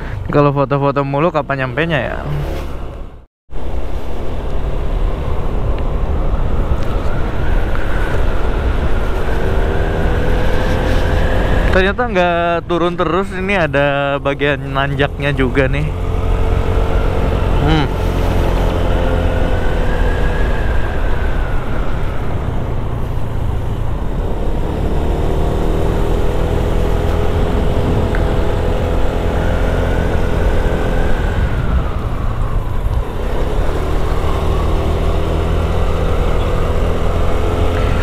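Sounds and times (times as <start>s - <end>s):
wind rumble on microphone: 2.8s - 12.7s, 15.9s - 38.0s.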